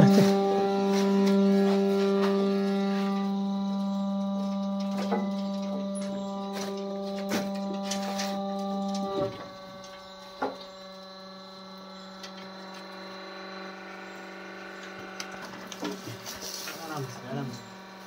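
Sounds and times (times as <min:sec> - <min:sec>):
baler machine humming: 0:00.0 - 0:18.0.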